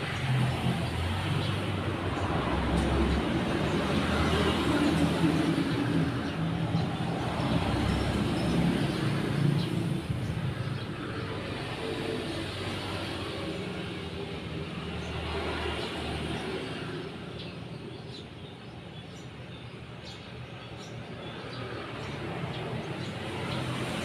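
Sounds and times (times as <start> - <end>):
road traffic rumble: 0.0 - 24.0
sparrows chirping: 0.0 - 24.0.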